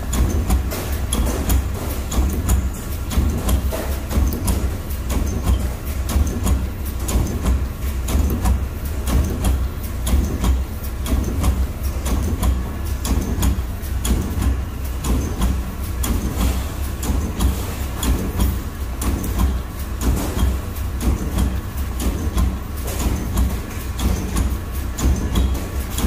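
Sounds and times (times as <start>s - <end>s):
machine low hum: 0.0s - 26.0s
sharp machine clacks: 0.0s - 26.0s.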